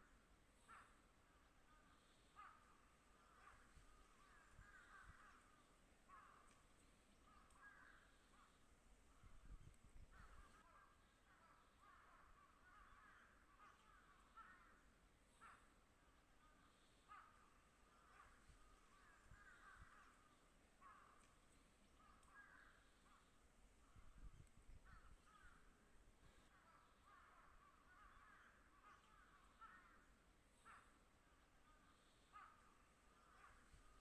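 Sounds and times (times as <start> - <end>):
faint birds calling: 0.0 - 34.0.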